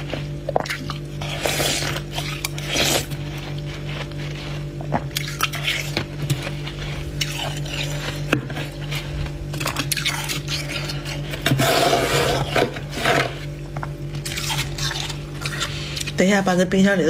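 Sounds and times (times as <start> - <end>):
freezer frost scraping: 0.0 - 17.0
steady low hum: 0.0 - 17.0.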